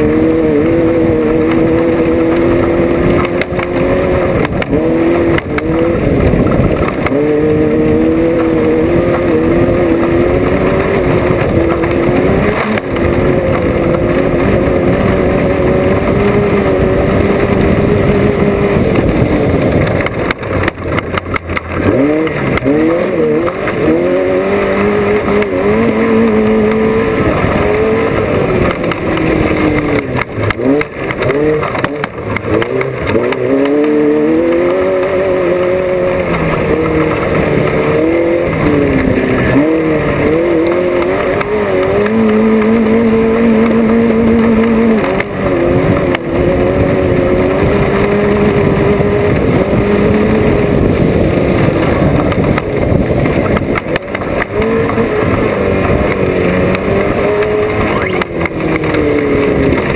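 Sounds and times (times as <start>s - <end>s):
race vehicle engine revving: 0.0s - 59.9s.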